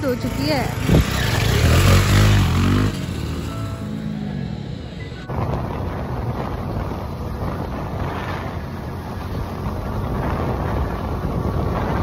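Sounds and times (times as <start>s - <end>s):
wind buffeting microphone: 0.0s - 3.7s, 5.1s - 12.0s.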